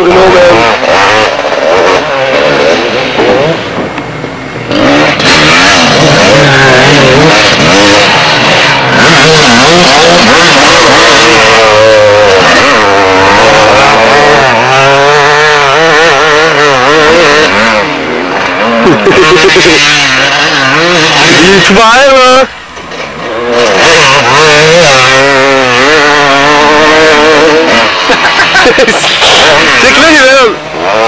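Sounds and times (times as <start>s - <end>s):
two-stroke motorbike engine revving: 0.0s - 31.0s.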